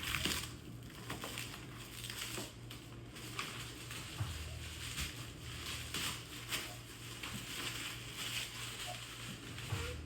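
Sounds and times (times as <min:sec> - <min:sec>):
plastic shrink wrap crinkling: 0:00.0 - 0:10.0.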